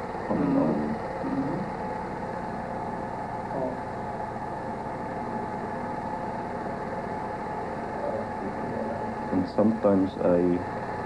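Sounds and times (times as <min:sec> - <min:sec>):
droning hum: 0:00.0 - 0:11.0.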